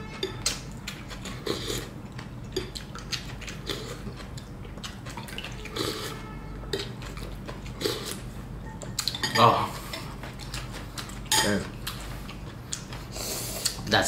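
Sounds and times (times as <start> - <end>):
chewing and slurping: 0.1 - 13.9.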